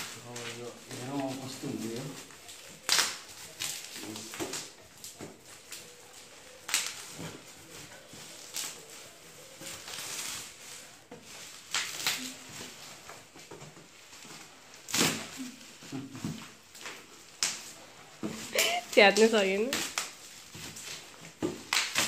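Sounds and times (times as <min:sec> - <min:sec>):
bubble wrap crinkling and rustling: 0:00.0 - 0:22.0
sharp plastic crackles: 0:00.0 - 0:22.0.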